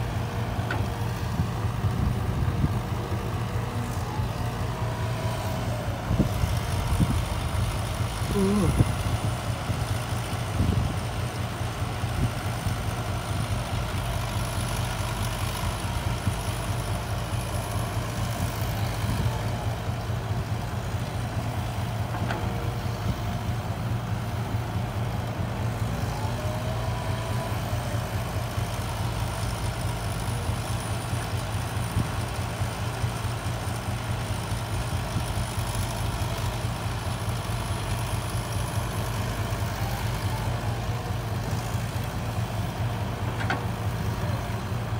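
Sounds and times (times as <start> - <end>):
dump truck engine idling: 0.0 - 44.9
excavator engine working: 0.0 - 44.9.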